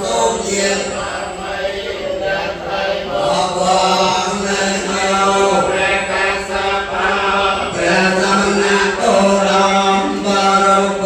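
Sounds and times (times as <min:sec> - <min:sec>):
group of voices chanting: 0:00.0 - 0:11.0.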